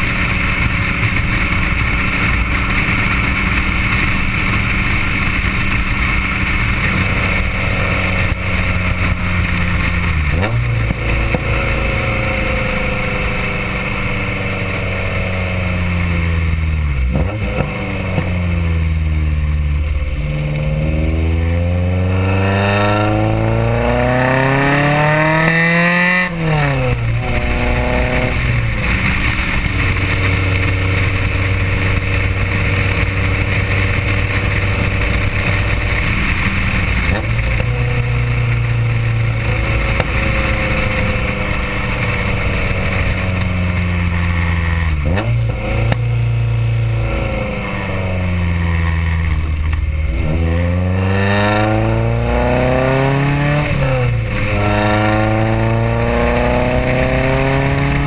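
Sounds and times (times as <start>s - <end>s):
car engine exhaust while driving: 0.0s - 58.0s.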